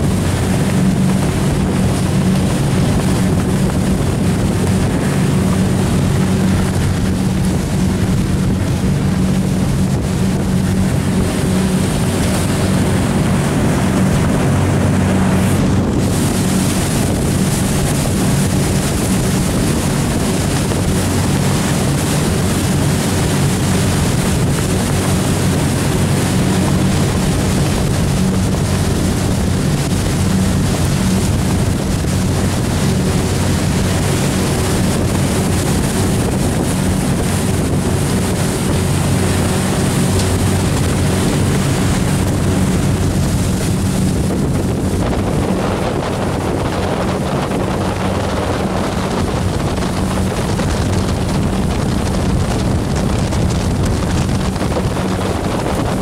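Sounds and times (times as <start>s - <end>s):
boat engine drone: 0.0s - 56.0s
wake water rushing: 0.0s - 56.0s
wind buffeting microphone: 0.0s - 56.0s.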